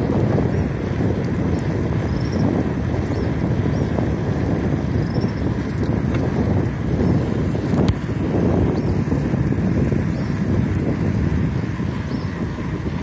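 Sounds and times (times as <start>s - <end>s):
bicycle tyre road noise: 0.0s - 13.0s
wind buffeting microphone: 0.0s - 13.0s.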